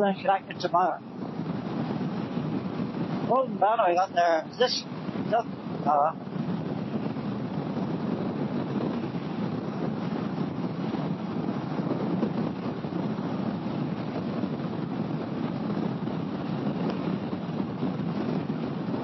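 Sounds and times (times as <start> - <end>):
motorcycle engine and road noise: 0.0 - 19.0
wind rush: 0.0 - 19.0.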